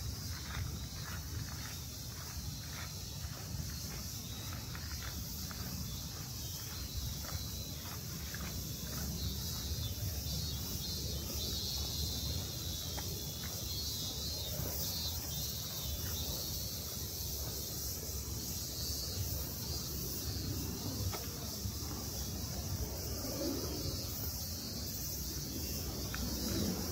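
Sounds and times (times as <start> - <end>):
high-pitched insect chorus: 0.0 - 26.9.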